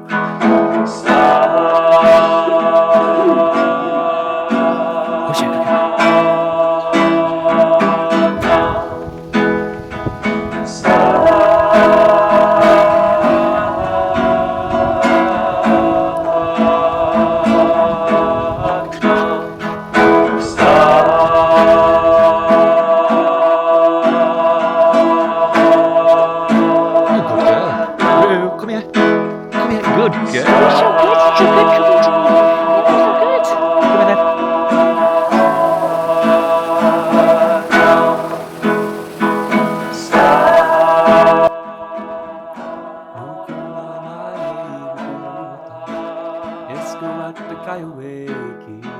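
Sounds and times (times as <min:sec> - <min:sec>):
long-held melody line: 0:00.0 - 0:48.2
plucked acoustic guitar: 0:00.0 - 0:48.9.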